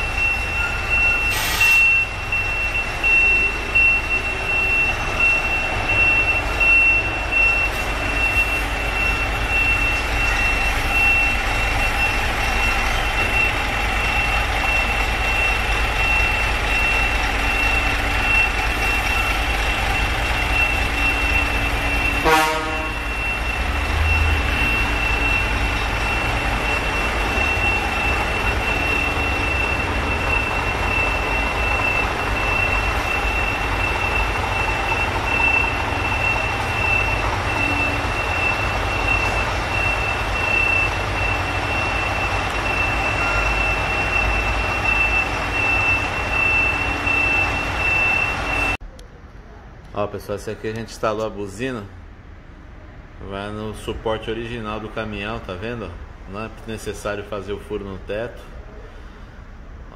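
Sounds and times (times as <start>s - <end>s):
truck engine idling: 0.0s - 50.4s.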